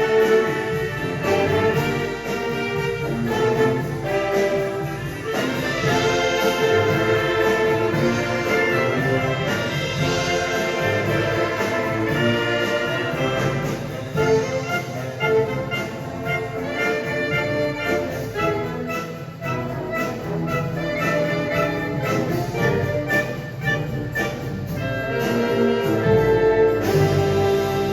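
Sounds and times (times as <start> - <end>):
marching band brass: 0.0 - 27.9
steady drum beat: 0.0 - 27.9.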